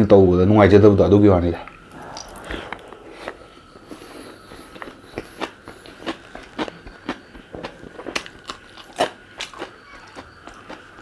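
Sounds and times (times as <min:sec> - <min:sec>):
person chewing: 0:01.8 - 0:11.0.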